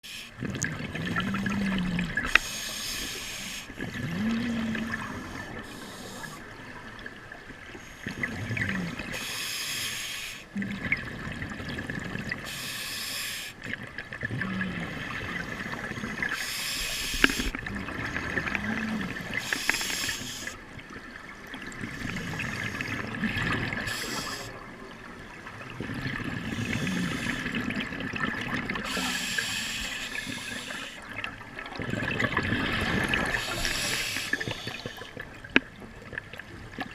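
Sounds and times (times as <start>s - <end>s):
water sloshing and splashing: 0.4s - 9.3s, 13.6s - 36.9s.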